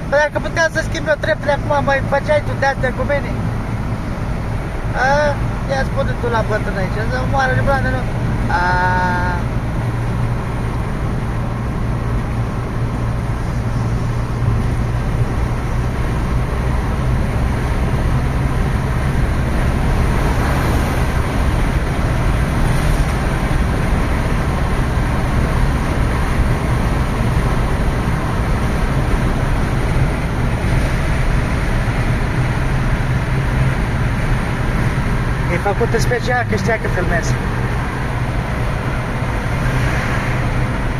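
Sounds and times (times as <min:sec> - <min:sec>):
road and wind noise: 0:00.0 - 0:40.9
vehicle engine running: 0:00.0 - 0:40.9.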